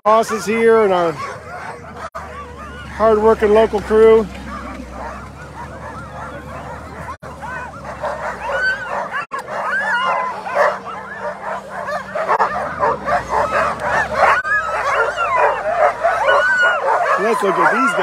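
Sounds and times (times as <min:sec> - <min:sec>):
dogs barking and yelping: 0:00.0 - 0:18.0.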